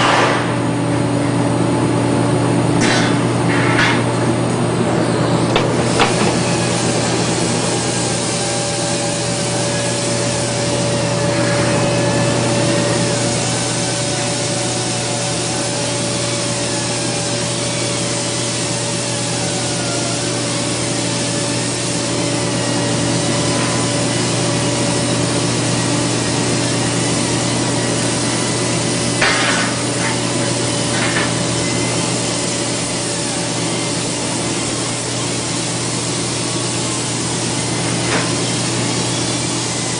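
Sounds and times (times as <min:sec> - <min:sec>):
welding arc buzzing hiss: 0:00.0 - 0:39.9.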